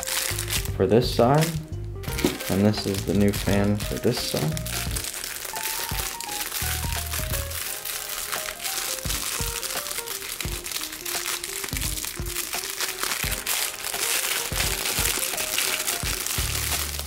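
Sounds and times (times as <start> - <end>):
background music: 0.0 - 17.0
plastic wrapping crinkling: 0.0 - 17.0.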